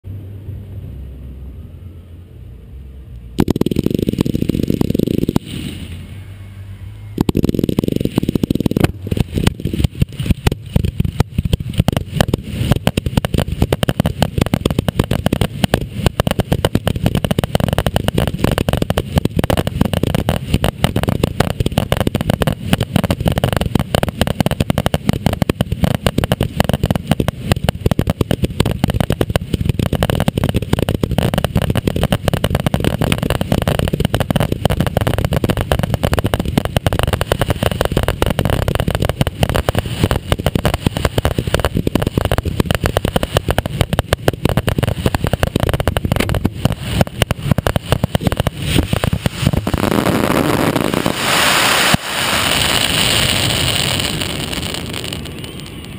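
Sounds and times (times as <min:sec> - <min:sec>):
heavy low rumble: 0:00.0 - 0:55.9
fireworks bangs and crackles: 0:03.4 - 0:06.3, 0:07.2 - 0:55.9.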